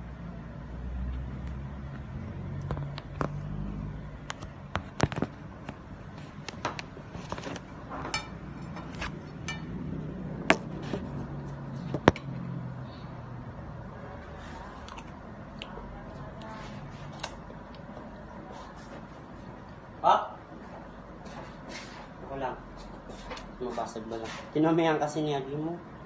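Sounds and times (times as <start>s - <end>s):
low steady hum: 0.0s - 21.3s.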